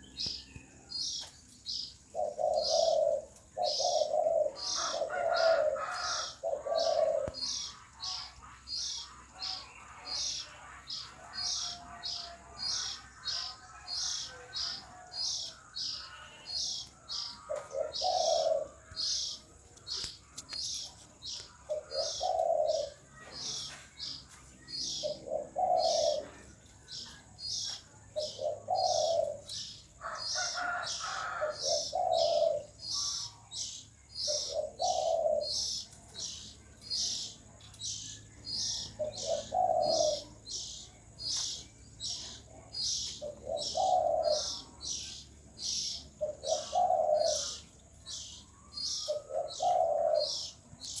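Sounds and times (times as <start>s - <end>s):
dove cooing: 1.1s - 37.4s, 38.4s - 51.0s.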